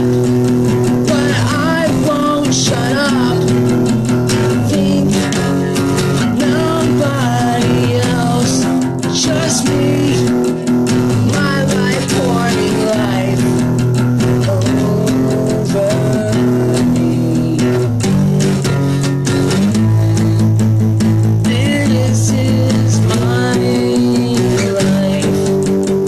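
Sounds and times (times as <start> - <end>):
bass line: 0.0 - 26.0
guitar melody: 0.0 - 26.0.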